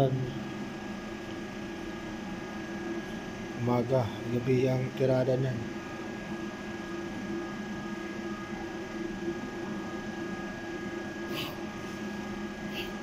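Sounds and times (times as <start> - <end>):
machinery hum: 0.0 - 13.0
thin steady whine: 0.0 - 13.0.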